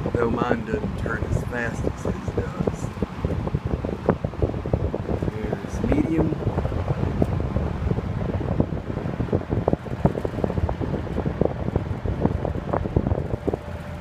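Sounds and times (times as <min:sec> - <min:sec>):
box fan running: 0:00.0 - 0:14.0
wind buffeting microphone: 0:00.0 - 0:14.0.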